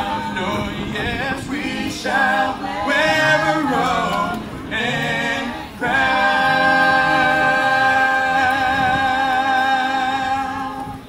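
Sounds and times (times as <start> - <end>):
choir singing a cappella chord: 0.0 - 11.0.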